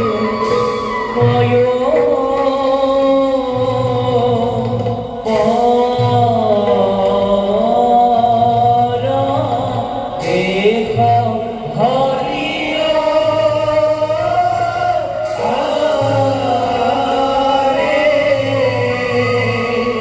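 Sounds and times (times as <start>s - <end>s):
musical accompaniment: 0.0s - 20.0s
person chanting long notes: 0.0s - 20.0s.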